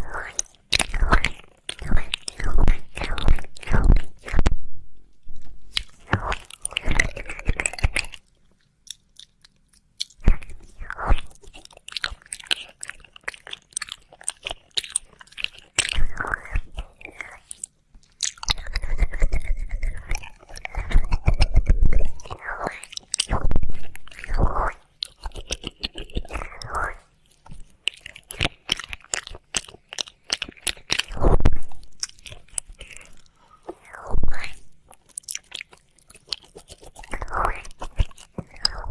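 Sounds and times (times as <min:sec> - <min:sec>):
wet mouth licking and smacking: 0:00.0 - 0:04.6, 0:05.3 - 0:38.9.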